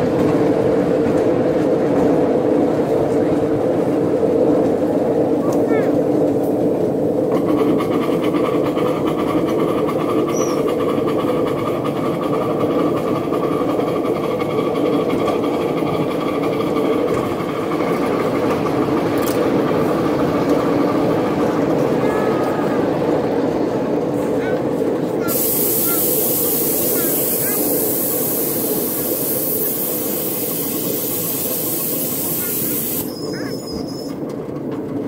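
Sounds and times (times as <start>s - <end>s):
miniature steam locomotive running: 3.0s - 23.2s, 24.0s - 35.0s.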